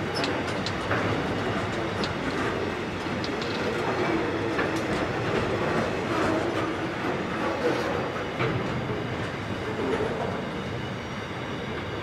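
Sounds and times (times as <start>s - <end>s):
train wheels clattering over rails: 0.0s - 10.5s.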